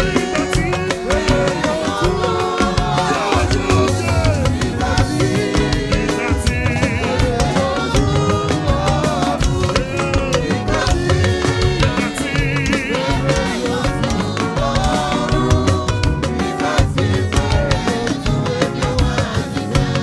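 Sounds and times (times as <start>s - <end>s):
drums steady fast beat: 0.0s - 20.0s
worship band with singing: 0.0s - 20.0s.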